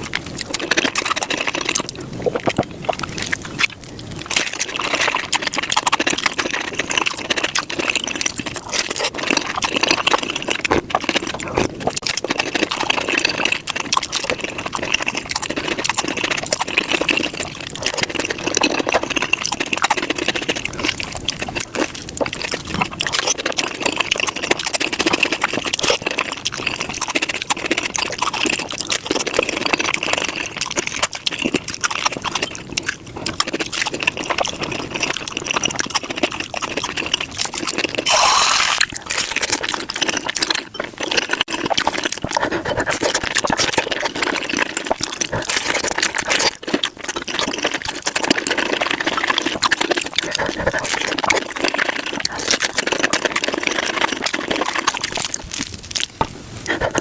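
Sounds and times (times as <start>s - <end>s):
sped-up chewing and crunching: 0.0s - 57.0s.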